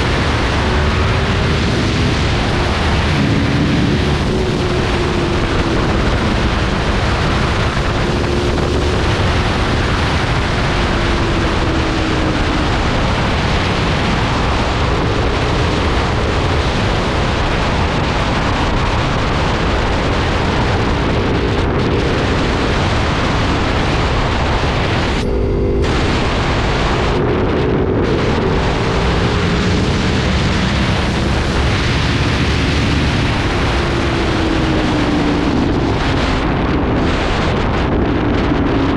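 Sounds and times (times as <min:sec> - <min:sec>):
motorcycle engine: 0:00.0 - 0:18.4, 0:19.4 - 0:38.0
wind rushing over microphone: 0:00.0 - 0:38.9.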